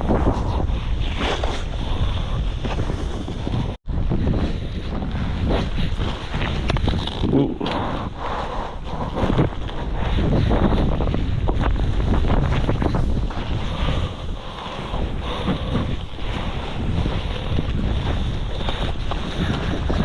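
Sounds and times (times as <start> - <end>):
wind on camera microphone: 0.0 - 20.0.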